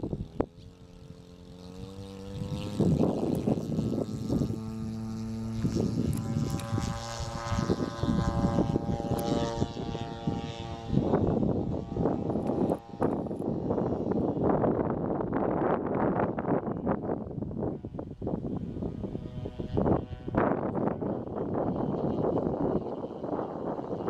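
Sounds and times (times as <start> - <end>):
propeller airplane engine: 0.0 - 24.0.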